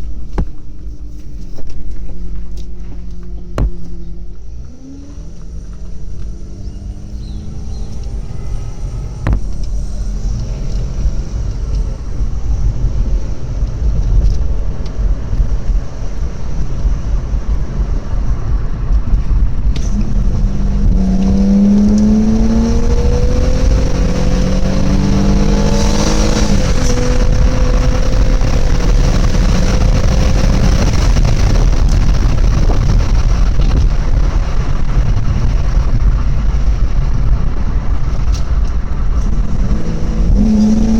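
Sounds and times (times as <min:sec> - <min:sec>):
car engine heard from cabin: 0:00.0 - 0:40.9
low road rumble: 0:00.0 - 0:40.9.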